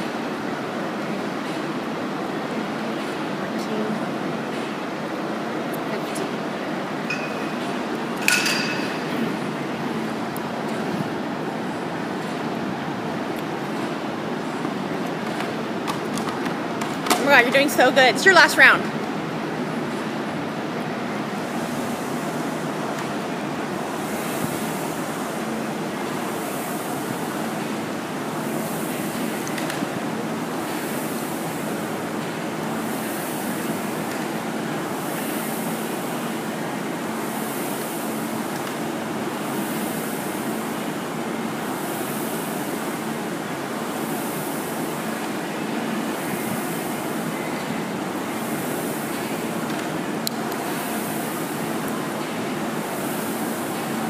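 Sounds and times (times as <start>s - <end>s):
rowing machine fan whooshing: 0.0s - 54.0s.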